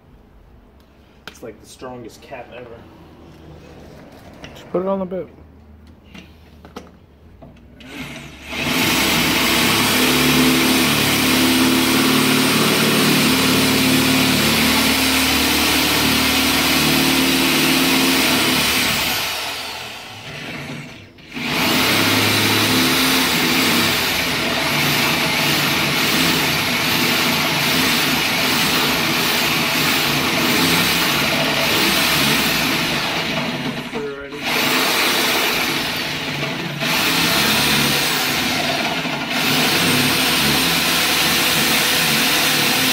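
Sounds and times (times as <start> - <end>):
electric drill boring through steel: 7.8 - 42.9.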